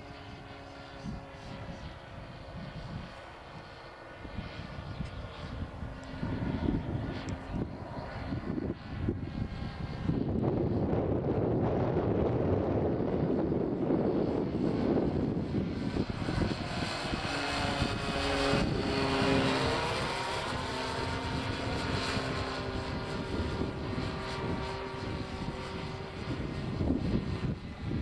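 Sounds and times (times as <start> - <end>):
model plane motor droning: 0.0 - 28.0
wind buffeting microphone: 0.0 - 28.0.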